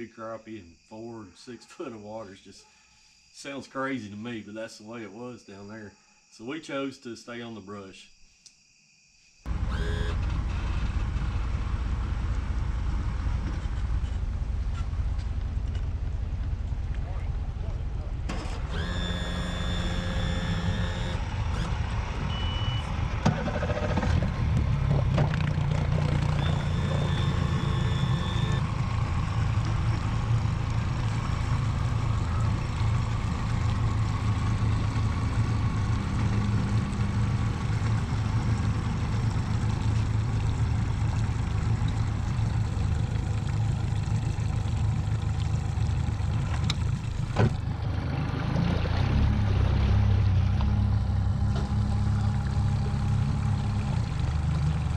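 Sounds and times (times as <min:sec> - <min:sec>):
engine running steadily: 0:09.5 - 0:54.9.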